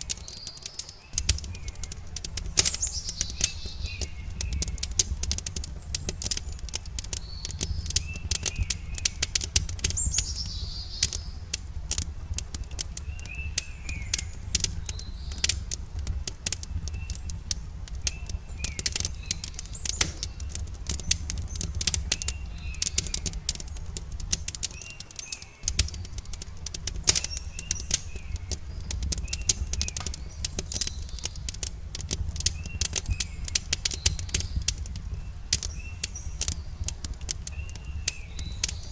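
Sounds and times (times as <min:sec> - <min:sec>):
bird chirping: 0:00.0 - 0:11.5, 0:12.5 - 0:15.7, 0:18.0 - 0:31.6, 0:32.4 - 0:38.9
campfire crackling and snapping: 0:00.0 - 0:38.9.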